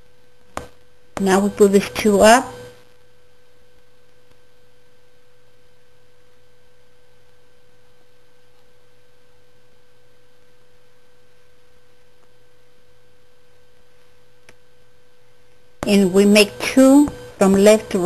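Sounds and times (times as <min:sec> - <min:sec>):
high-pitched electrical whine: 0:00.0 - 0:18.0
low hum: 0:00.0 - 0:18.0.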